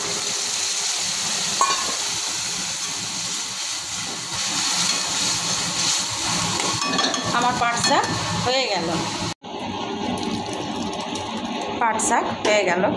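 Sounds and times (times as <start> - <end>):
leaves sizzling in hot oil: 0.0 - 12.2.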